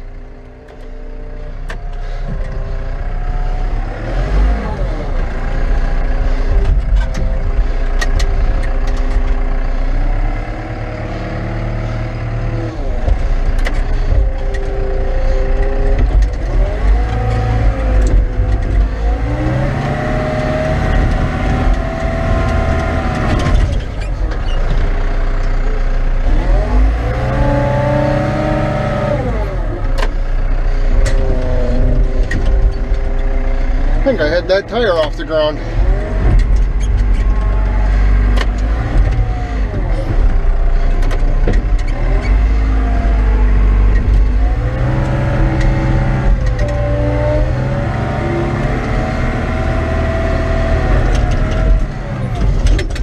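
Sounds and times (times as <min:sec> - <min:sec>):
wheel loader diesel engine revving: 0:00.0 - 0:53.0.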